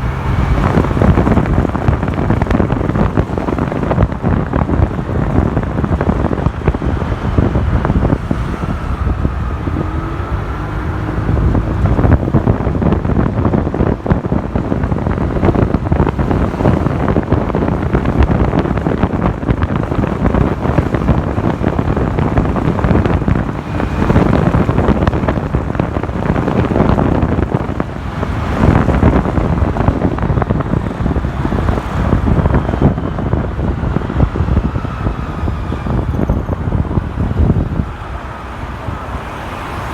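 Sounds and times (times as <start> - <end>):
motorcycle engine: 0.0 - 38.8
road traffic: 0.0 - 39.9
wind buffeting microphone: 0.0 - 39.9.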